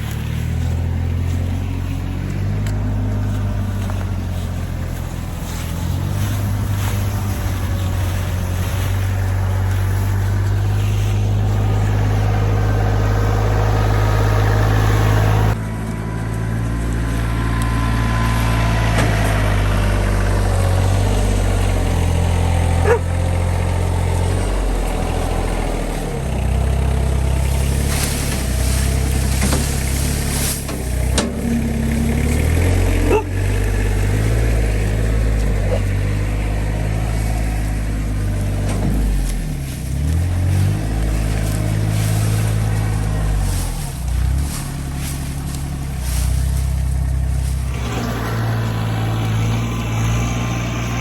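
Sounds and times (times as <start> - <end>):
diesel tractor engine running: 0.0 - 51.0.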